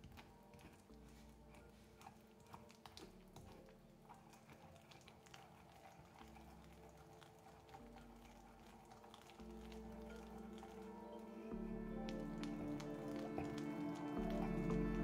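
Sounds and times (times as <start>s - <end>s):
faint background music: 0.0s - 15.0s
wooden pestle grinding in mortar: 0.0s - 15.0s.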